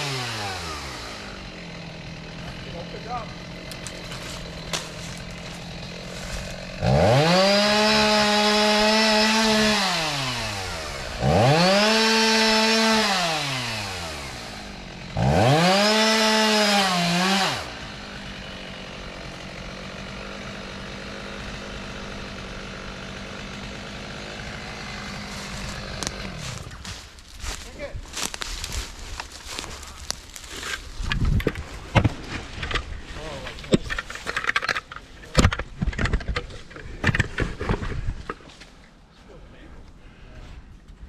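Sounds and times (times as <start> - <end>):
chainsaw idling and revving: 0.0 - 37.8.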